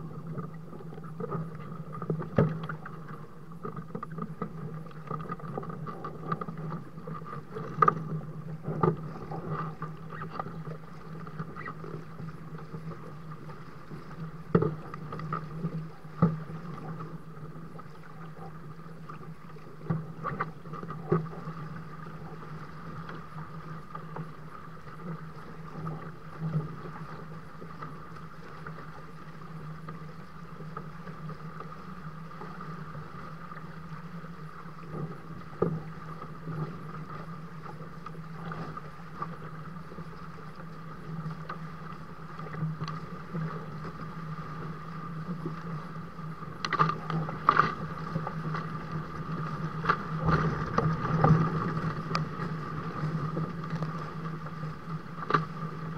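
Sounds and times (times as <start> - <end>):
water splashing against hulls: 0.0 - 55.9.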